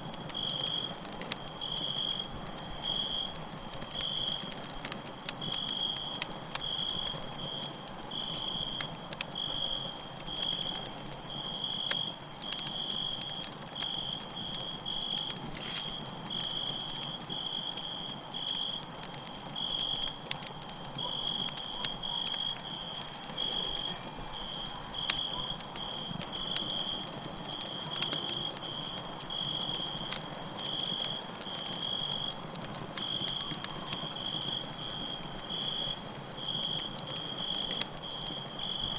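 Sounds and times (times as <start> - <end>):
campfire crackling: 0.0 - 38.9
crickets chirping: 0.0 - 38.9.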